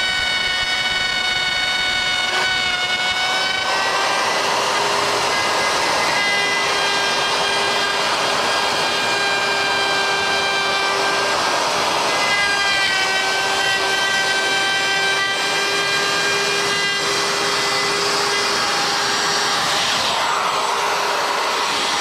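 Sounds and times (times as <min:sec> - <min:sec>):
wood router whining: 0:00.0 - 0:22.0.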